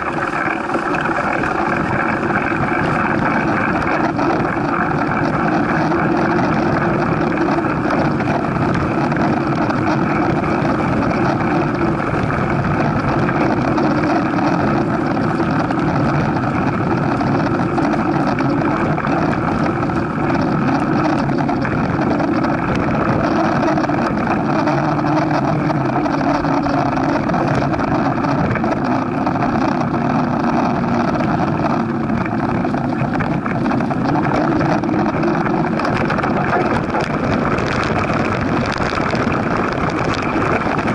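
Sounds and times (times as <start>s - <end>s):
tyres rolling on dirt: 0.0s - 40.9s
wind on microphone: 0.0s - 40.9s.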